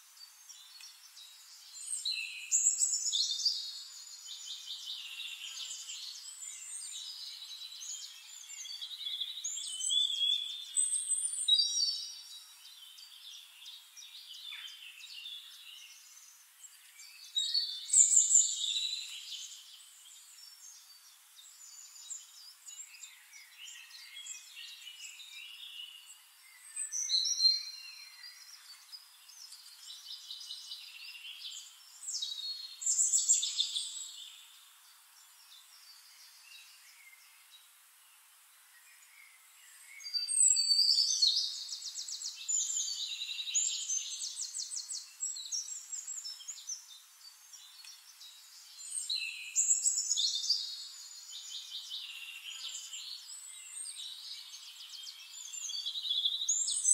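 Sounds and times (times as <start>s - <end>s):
birds chirping and trilling: 0.1s - 56.9s.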